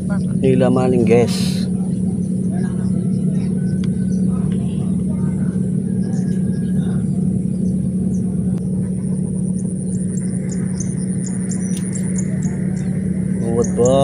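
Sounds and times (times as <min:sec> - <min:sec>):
steady low drone: 0:00.0 - 0:14.0.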